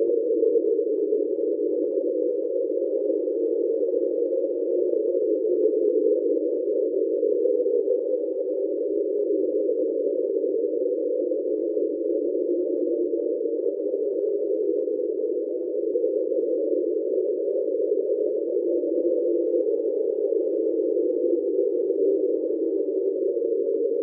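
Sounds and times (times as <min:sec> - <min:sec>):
steady underwater hum: 0:00.0 - 0:24.0.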